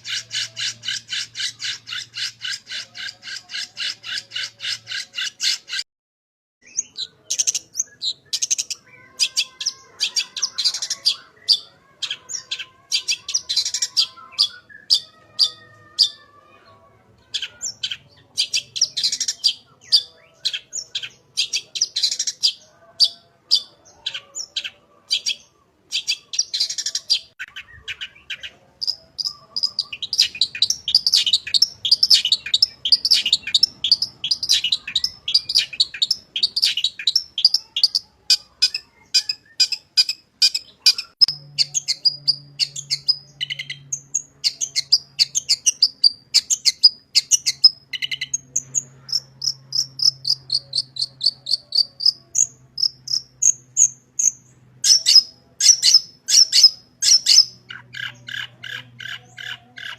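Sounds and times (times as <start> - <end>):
shrike singing chirps and trills: 0.0 - 5.8, 6.6 - 16.6, 17.2 - 59.9.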